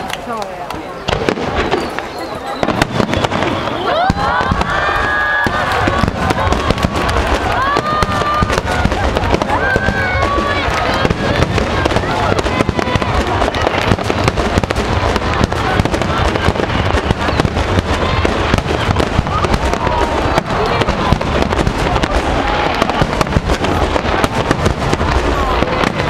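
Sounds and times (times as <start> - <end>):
crowd cheering and shouting: 0.0 - 26.0
fireworks bursting: 0.0 - 26.0.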